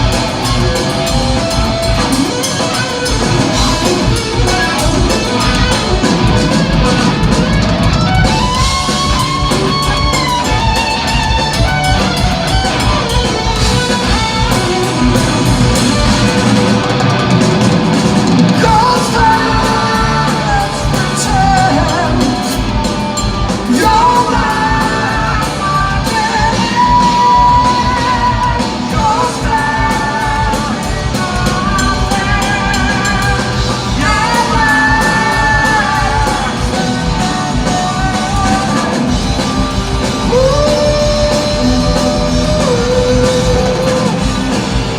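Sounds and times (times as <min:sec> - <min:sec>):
electric guitar bending notes: 0:00.0 - 0:29.0, 0:29.6 - 0:44.9
bass guitar: 0:00.0 - 0:44.9
drums: 0:00.0 - 0:44.9.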